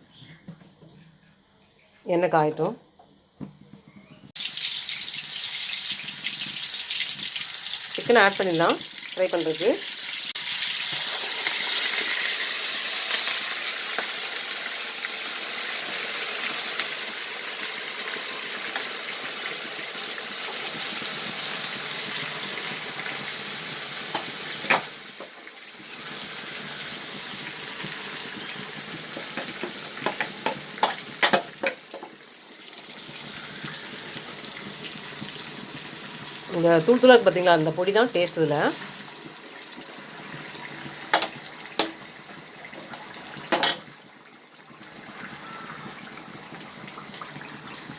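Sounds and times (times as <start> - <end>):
chicken sizzling in oil: 4.3 - 47.9.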